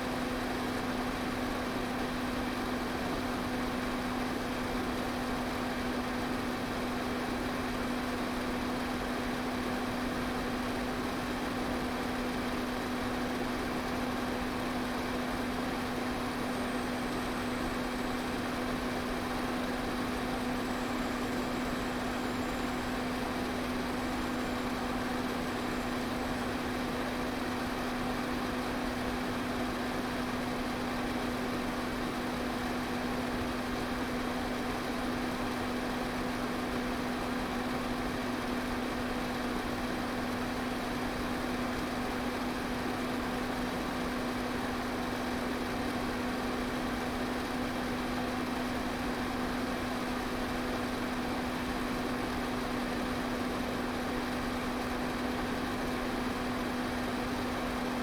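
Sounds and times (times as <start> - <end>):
fan motor hum: 0.0 - 58.0.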